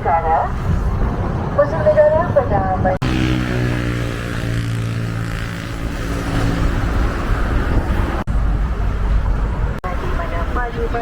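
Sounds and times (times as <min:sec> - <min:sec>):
bus engine humming: 0:00.0 - 0:11.0
road noise: 0:00.0 - 0:11.0.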